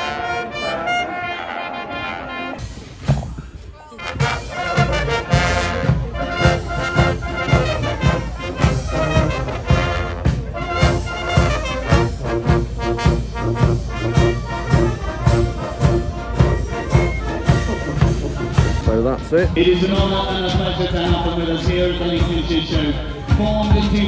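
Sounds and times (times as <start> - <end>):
brass instruments: 0.0 - 24.0
steady drum beat: 2.6 - 24.0.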